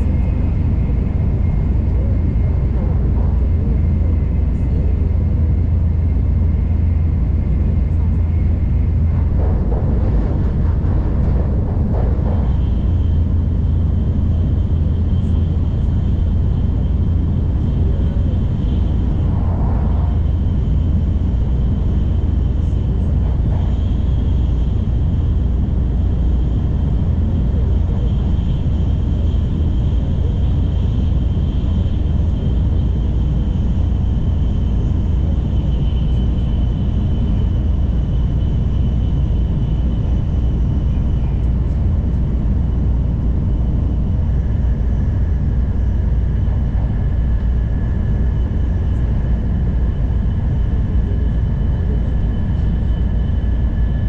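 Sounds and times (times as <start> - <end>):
faint high whine: 0.0 - 54.0
train rumbling at speed: 0.0 - 54.0.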